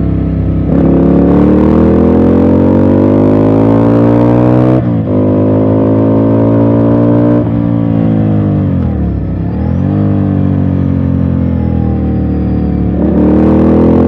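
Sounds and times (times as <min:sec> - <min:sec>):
motorcycle engine under load: 0:00.0 - 0:14.0.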